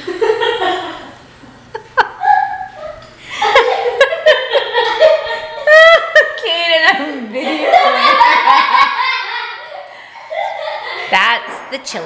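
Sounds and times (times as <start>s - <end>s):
woman laughing: 0.0s - 11.1s.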